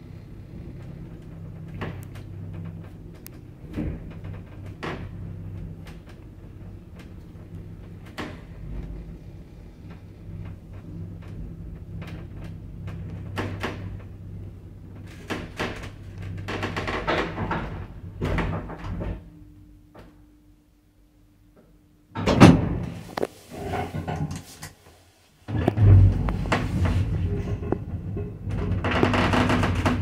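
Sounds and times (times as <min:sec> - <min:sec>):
lift motor hum: 0:00.0 - 0:20.7, 0:25.4 - 0:30.0
lift knocking and clattering: 0:00.7 - 0:20.2, 0:25.5 - 0:30.0.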